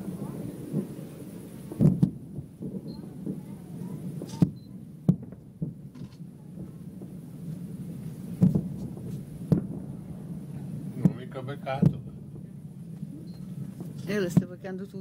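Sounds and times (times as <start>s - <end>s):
fireworks bursting: 0.0s - 15.0s
sharp firework bangs: 0.0s - 15.0s.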